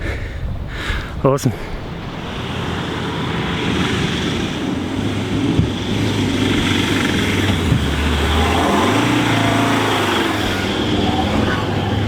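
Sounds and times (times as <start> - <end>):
vehicle engine working hard: 1.9 - 12.0.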